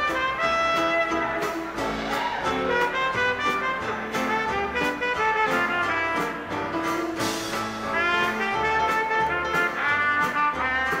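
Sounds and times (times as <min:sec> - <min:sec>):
dance orchestra playing jazz: 0:00.0 - 0:11.0.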